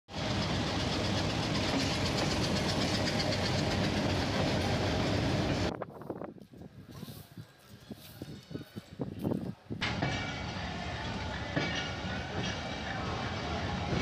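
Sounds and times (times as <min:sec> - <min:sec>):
diesel locomotive passing: 0:00.1 - 0:06.2, 0:07.8 - 0:14.0
train wheels on rails: 0:00.1 - 0:14.0.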